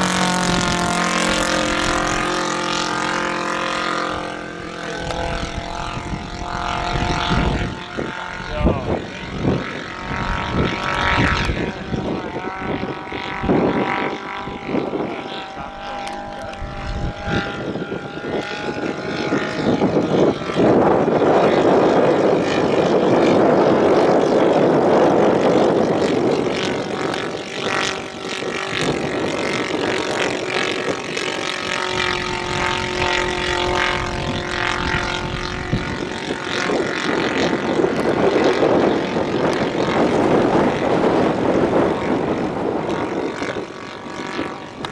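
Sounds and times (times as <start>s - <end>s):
model aircraft engine and propeller: 0.0s - 44.9s.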